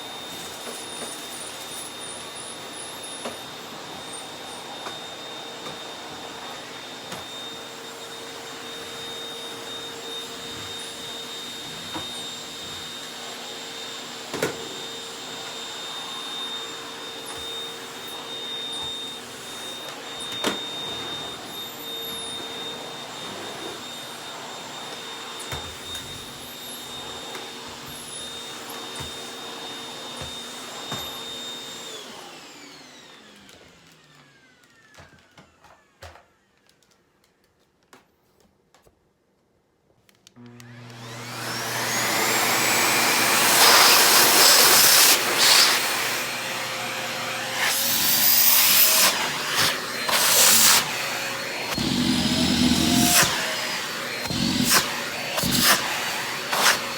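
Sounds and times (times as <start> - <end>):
vacuum cleaner running: 0.0 - 36.9, 40.4 - 56.9.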